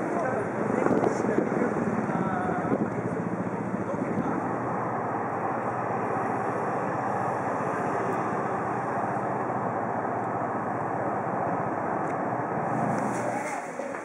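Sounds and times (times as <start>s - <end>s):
traffic in a jam: 0.0s - 14.0s.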